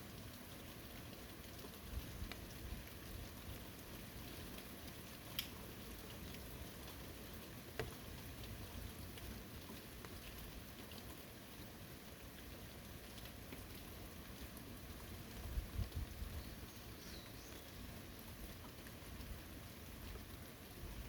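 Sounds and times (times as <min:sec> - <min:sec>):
light rain falling: 0:00.0 - 0:21.0
water drips: 0:00.0 - 0:21.0.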